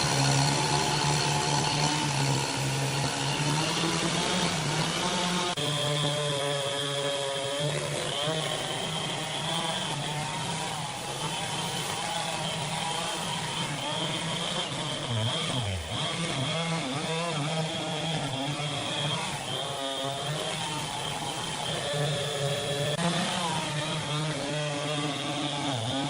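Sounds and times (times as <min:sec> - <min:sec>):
engine-driven machinery running: 0:00.0 - 0:26.0.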